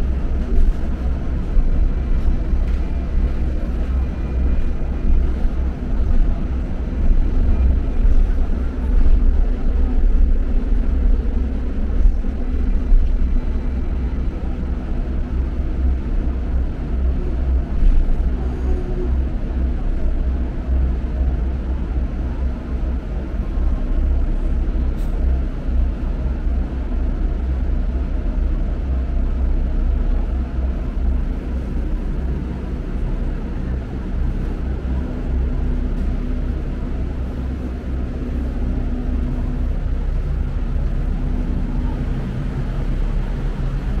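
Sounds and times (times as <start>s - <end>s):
faint hum: 0.0s - 44.0s
tram cabin rumble: 0.0s - 44.0s.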